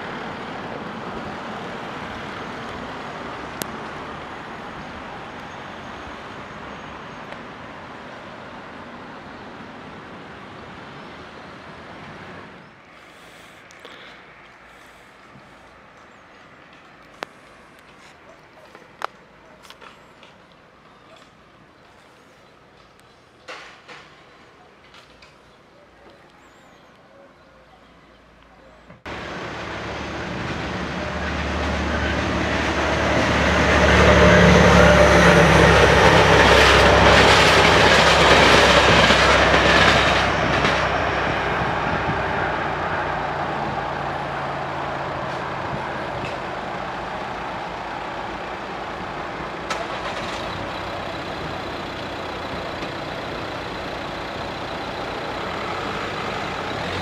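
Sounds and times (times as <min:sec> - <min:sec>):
diesel train rumbling past: 0:00.0 - 0:24.6, 0:28.2 - 0:57.0
road vehicles idling quietly: 0:00.0 - 0:57.0.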